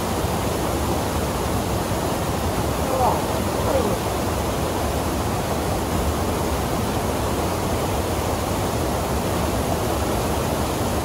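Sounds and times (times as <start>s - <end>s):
rush of white water: 0.0s - 11.0s.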